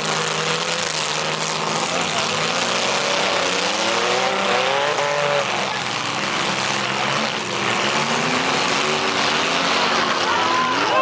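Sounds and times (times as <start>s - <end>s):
car engine revving hard: 0.0s - 11.0s
din of car engines: 0.0s - 11.0s.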